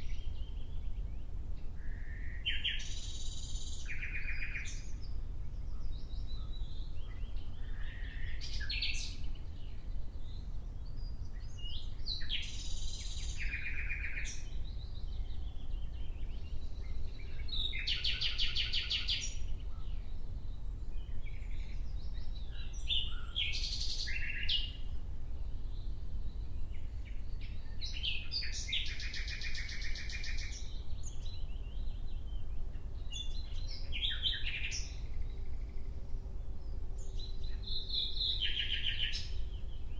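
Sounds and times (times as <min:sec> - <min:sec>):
nightingale singing: 0:00.0 - 0:24.9, 0:25.6 - 0:39.9.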